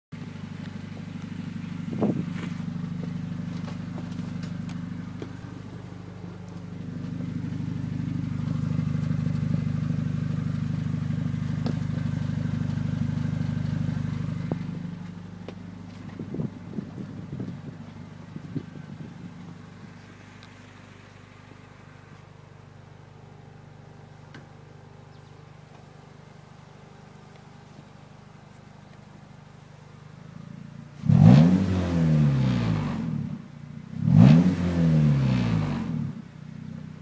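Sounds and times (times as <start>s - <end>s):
car exhaust deep tone: 0.1s - 37.0s.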